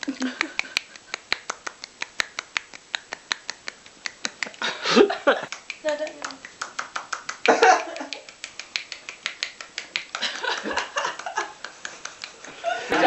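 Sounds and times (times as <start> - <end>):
one hand clapping slaps: 0.3 - 4.7, 5.4 - 12.6.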